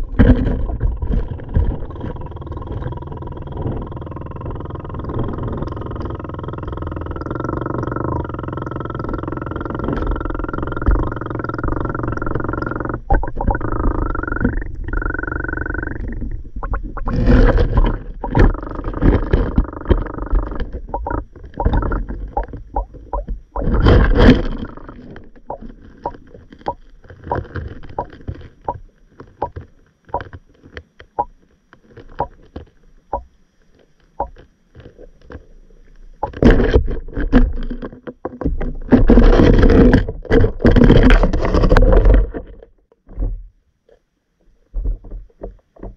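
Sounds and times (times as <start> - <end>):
steady hum: 0.0 - 42.6.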